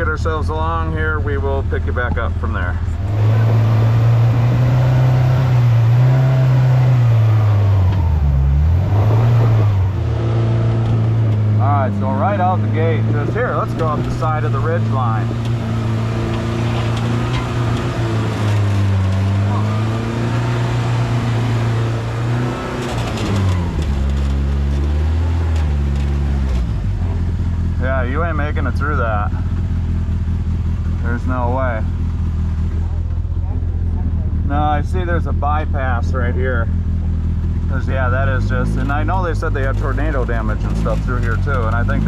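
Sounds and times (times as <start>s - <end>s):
off-road vehicle engine under throttle: 0.0s - 42.0s.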